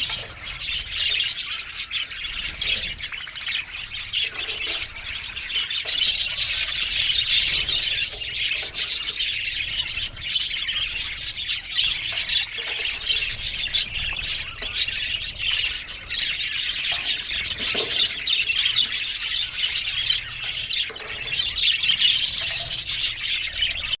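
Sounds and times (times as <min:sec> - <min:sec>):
budgerigars chattering and chirping: 0:00.0 - 0:24.0.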